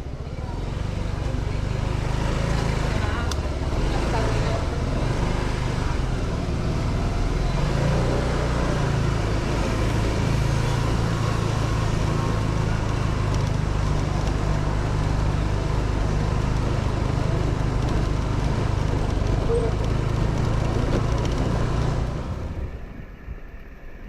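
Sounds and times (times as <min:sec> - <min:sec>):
motorcycle engine running: 0:00.0 - 0:23.3.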